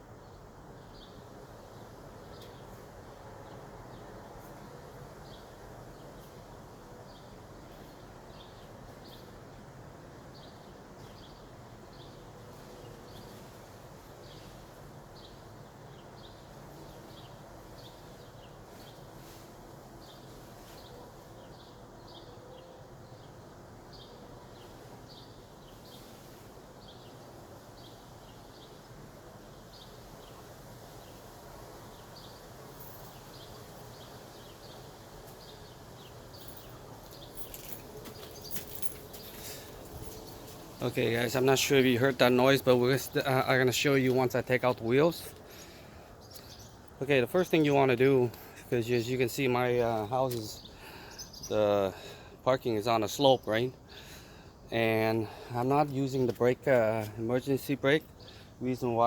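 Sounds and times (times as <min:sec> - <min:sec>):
steady low background noise: 0:00.0 - 0:59.0.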